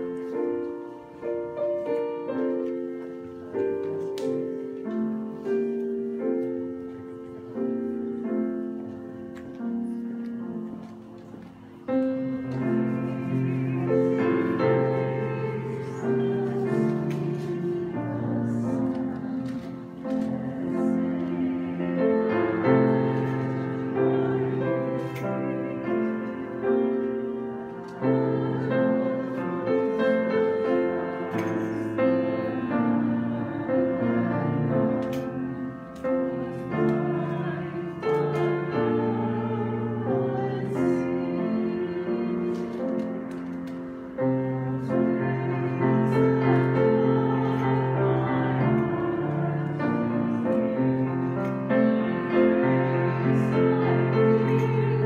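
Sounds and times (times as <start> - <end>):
grand piano chords: 0.0 - 55.0.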